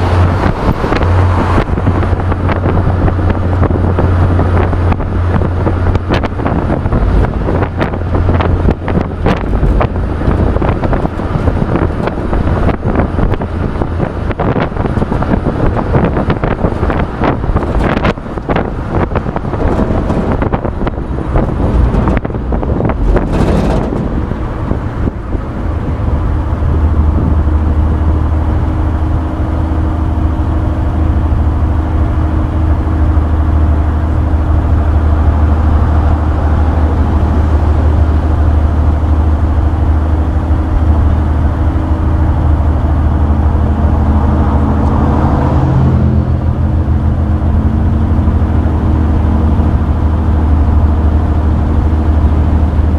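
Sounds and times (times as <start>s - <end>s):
road noise: 0.0s - 52.9s
truck engine drone: 0.0s - 52.9s
wind buffeting microphone: 0.0s - 52.9s.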